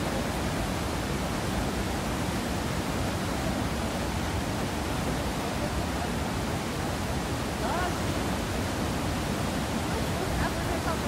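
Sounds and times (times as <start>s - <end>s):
whitewater rapids rushing: 0.0s - 11.0s.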